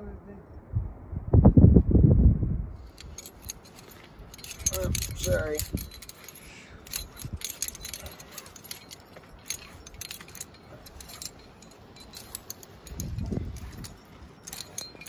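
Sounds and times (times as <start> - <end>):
metal climbing gear jingling: 2.8 - 15.0.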